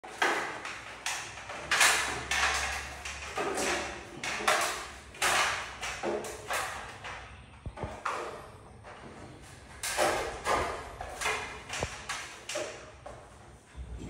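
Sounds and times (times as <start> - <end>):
feet climbing metal stepladder: 0.0 - 14.0.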